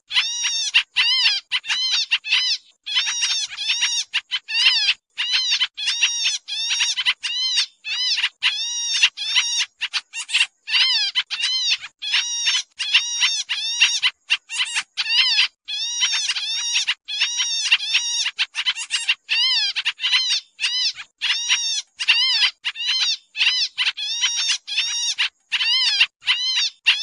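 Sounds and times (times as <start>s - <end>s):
birds calling harsh nasal notes: 0.0s - 27.0s.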